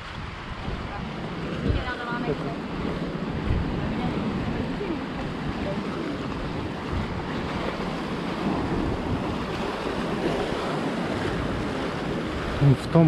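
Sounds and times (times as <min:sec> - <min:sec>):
surf breaking on rocks: 0:00.0 - 0:13.0
wind buffeting microphone: 0:00.0 - 0:13.0.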